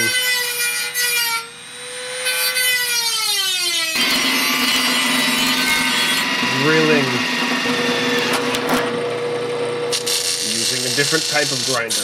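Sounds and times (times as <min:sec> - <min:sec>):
rotary tool grinding metal: 0:00.0 - 0:08.8, 0:09.9 - 0:12.0.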